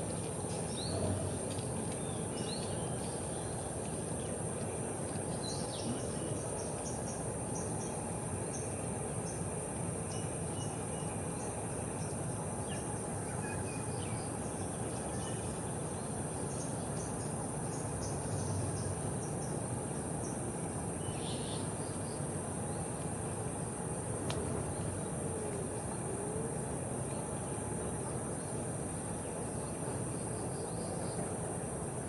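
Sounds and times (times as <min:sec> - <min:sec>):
high insect drone: 0:00.0 - 0:32.0
low outdoor ambient hum: 0:00.0 - 0:32.0.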